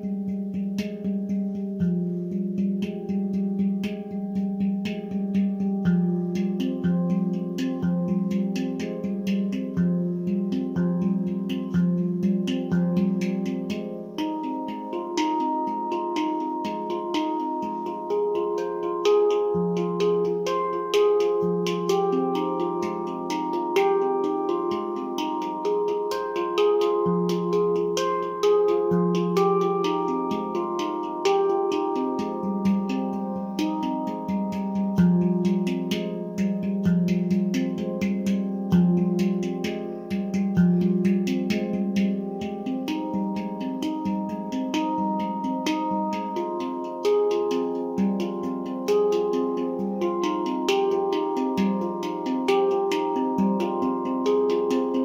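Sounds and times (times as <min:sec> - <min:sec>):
handpan notes: 0:00.0 - 0:55.0.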